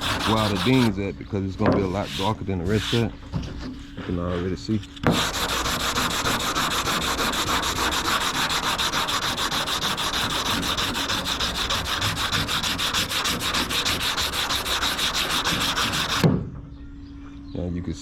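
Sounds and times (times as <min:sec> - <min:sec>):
sandpaper scrubbing back and forth: 0:00.0 - 0:16.2.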